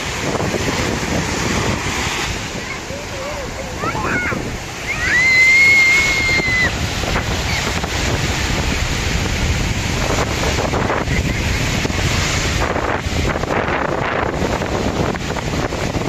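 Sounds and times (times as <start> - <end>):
sea waves washing in: 0.0 - 16.0
wind buffeting microphone: 0.0 - 16.0.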